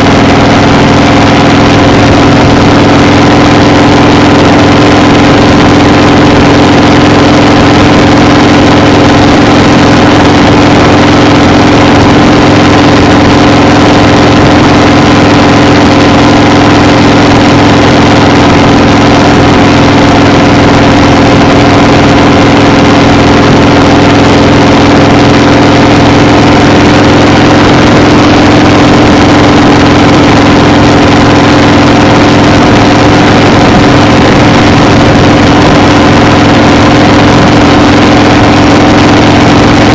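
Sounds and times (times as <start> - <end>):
loud engine drone: 0.0 - 39.9.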